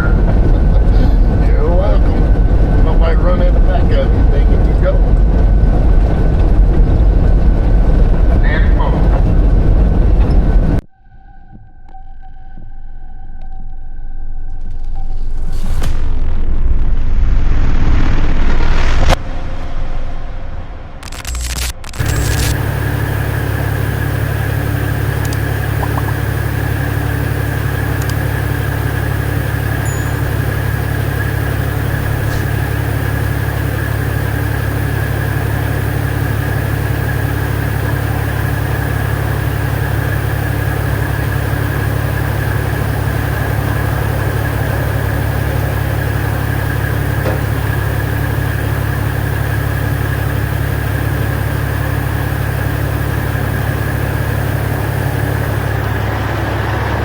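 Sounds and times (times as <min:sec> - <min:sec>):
diesel truck engine idling: 0:00.0 - 0:10.8, 0:21.8 - 0:57.0.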